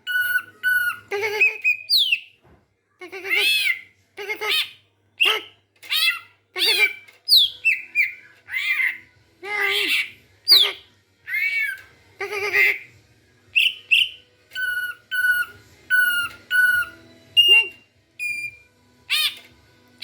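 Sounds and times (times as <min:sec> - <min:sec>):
songbird squawks and whistles: 0:00.0 - 0:02.4, 0:03.2 - 0:12.9, 0:13.5 - 0:19.5.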